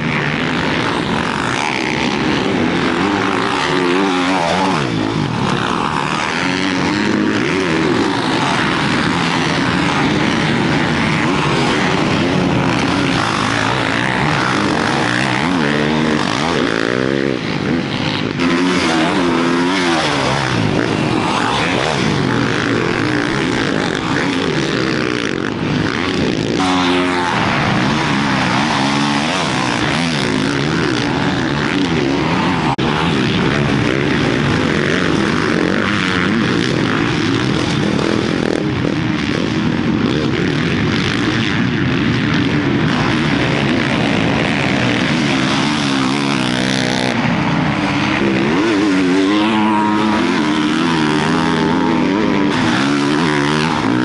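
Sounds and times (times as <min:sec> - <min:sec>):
motocross engines revving: 0:00.0 - 0:54.0.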